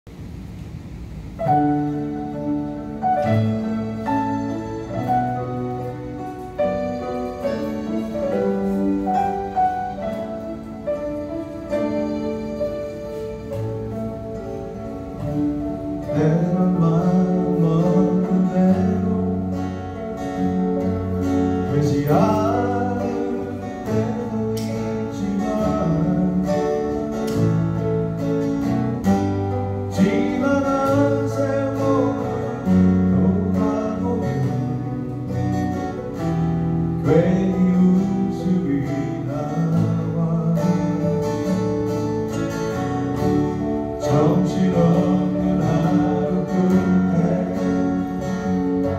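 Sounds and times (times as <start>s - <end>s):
acoustic guitars strumming: 0.1s - 48.9s
keyboard chords: 0.1s - 48.9s.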